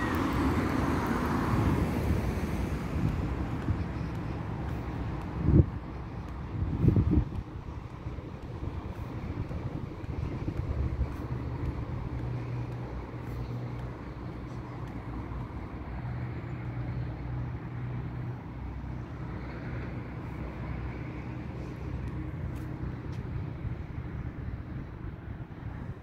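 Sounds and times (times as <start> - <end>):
road traffic rumbling: 0.0 - 26.0.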